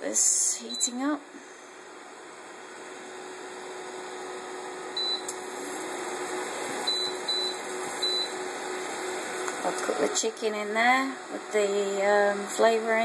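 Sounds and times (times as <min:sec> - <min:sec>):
hob humming: 0:00.0 - 0:13.0.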